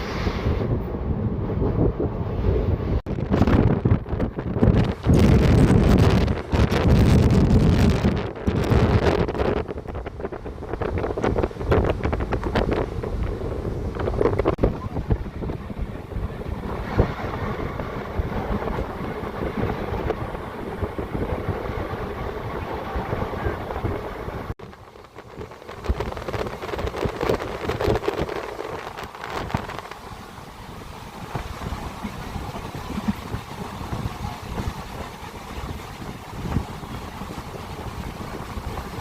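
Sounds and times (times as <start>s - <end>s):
wind buffeting microphone: 0.0s - 39.0s
train wheels rumbling and rattling: 3.1s - 39.0s.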